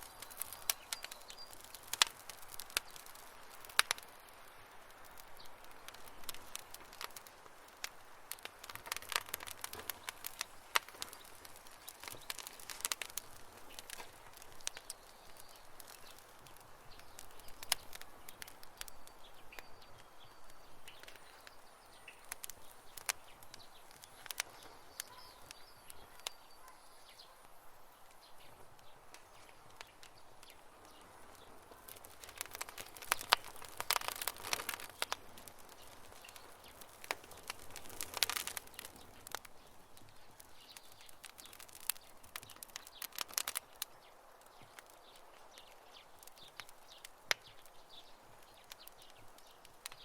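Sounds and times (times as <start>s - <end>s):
burning wood popping: 0.0s - 50.0s
campfire crackling: 0.0s - 50.0s.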